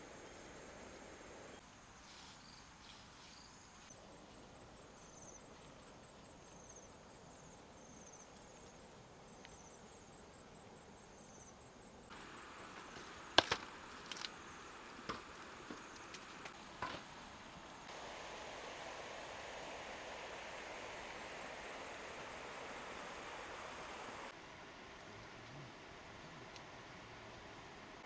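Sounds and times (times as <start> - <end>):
insects chirping: 0.0 - 27.8.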